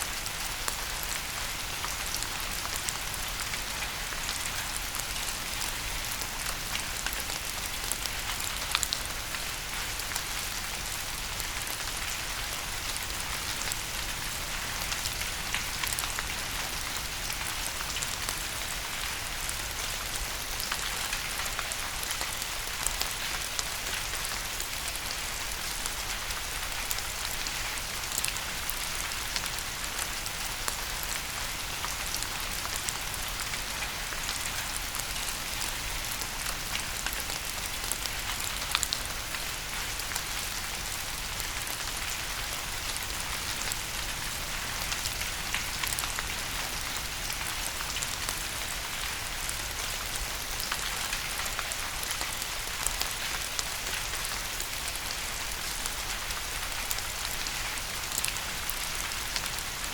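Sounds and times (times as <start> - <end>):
steady rain hiss: 0.0 - 59.9
raindrops pattering: 0.1 - 59.9.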